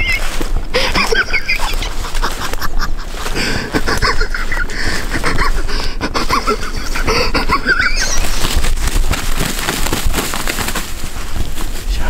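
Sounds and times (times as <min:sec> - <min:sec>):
footsteps crunching through leaves: 0:00.0 - 0:07.0, 0:07.7 - 0:12.0.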